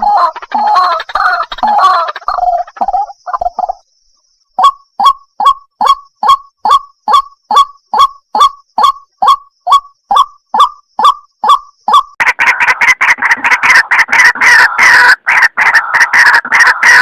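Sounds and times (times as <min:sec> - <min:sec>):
waterhen harsh calling: 0:00.0 - 0:03.3, 0:04.6 - 0:17.0.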